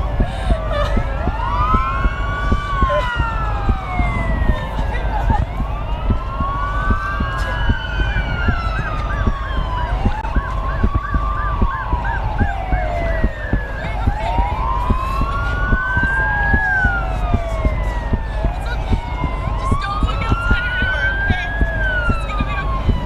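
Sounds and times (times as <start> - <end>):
emergency vehicle sirens wailing: 0.0 - 23.0
low rumble: 0.0 - 23.0.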